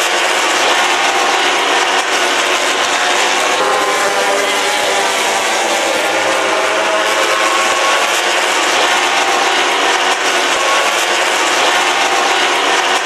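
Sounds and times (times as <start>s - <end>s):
racing motorcycles at high revs: 0.0s - 13.0s.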